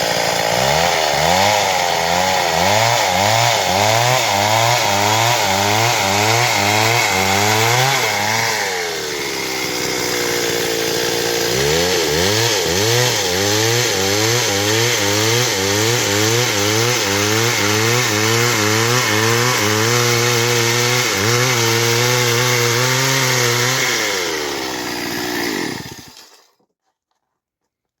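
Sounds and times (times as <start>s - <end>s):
chainsaw sawing wood: 0.0s - 26.6s.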